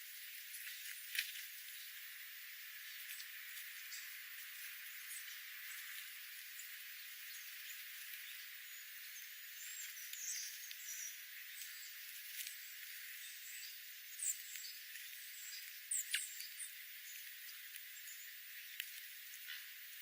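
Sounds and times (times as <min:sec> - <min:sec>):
small songbirds chirping: 0:00.0 - 0:20.0
steady hiss: 0:00.0 - 0:20.0.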